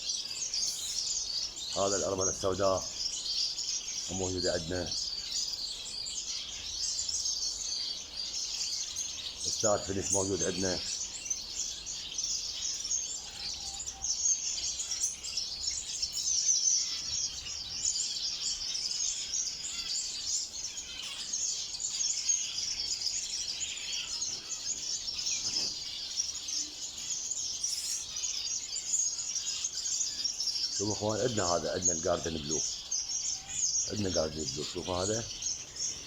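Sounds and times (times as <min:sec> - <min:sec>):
finches chirping and twittering: 0:00.0 - 0:36.0.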